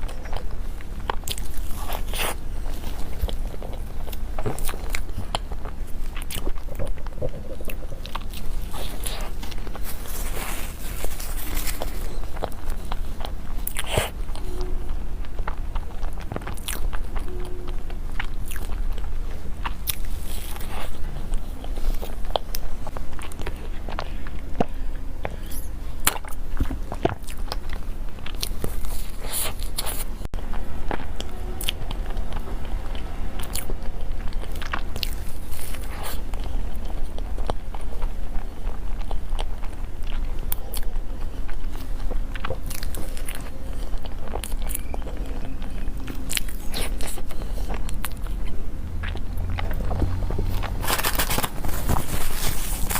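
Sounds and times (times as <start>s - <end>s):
chewing and biting: 0.0s - 52.9s
steady low hum: 0.0s - 52.9s.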